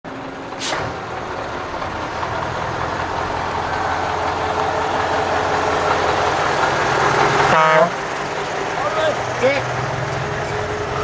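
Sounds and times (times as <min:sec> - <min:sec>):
truck diesel engine running: 0:00.1 - 0:11.0.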